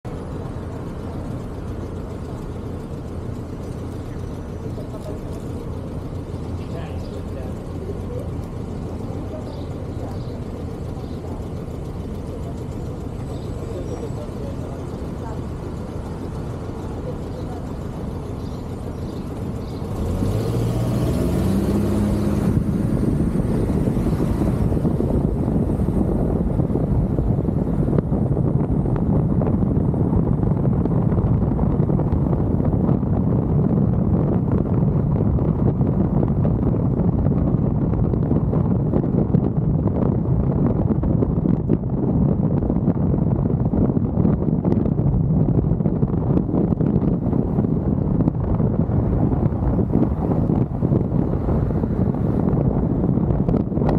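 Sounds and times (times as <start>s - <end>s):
car engine accelerating: 0.0s - 53.9s
low rumble of street traffic: 0.0s - 53.9s
road and tyre noise: 0.0s - 53.9s.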